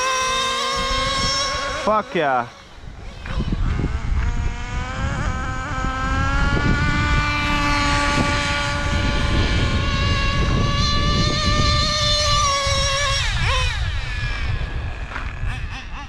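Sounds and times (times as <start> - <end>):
small engine high-revving whine: 0.0 - 16.0.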